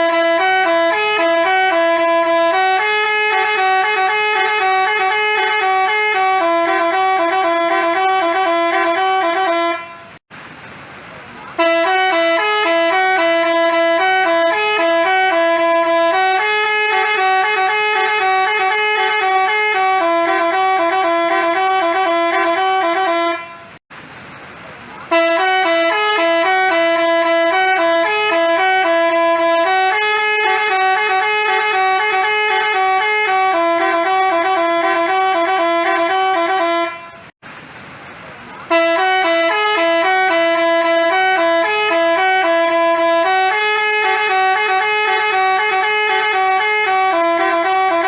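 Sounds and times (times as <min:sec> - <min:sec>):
bus horn playing a melody: 0:00.0 - 0:10.2, 0:11.5 - 0:23.8, 0:25.1 - 0:37.4, 0:38.7 - 0:48.0.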